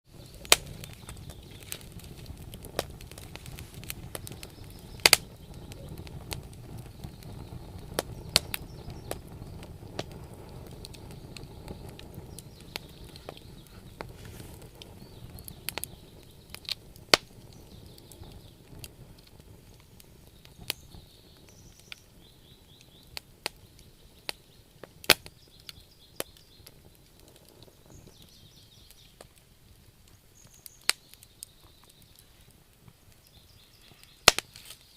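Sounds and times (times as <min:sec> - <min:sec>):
campfire crackling and popping: 0:00.0 - 0:34.9
low rumble of burning: 0:00.0 - 0:34.9.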